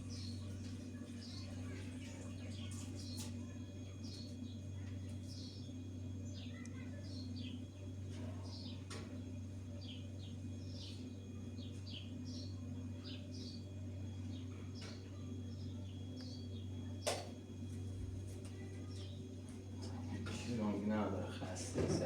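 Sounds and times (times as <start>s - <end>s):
small birds chirping: 0.0s - 21.5s
steady low hum: 0.0s - 22.0s.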